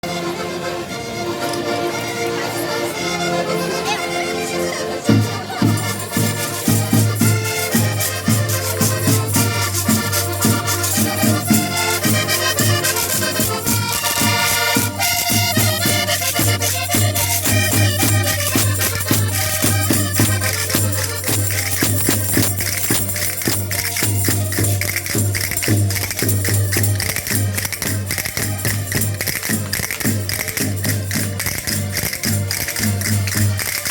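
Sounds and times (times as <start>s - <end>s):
folk dance music: 0.0s - 33.9s
jingling shaken percussion: 1.2s - 33.9s.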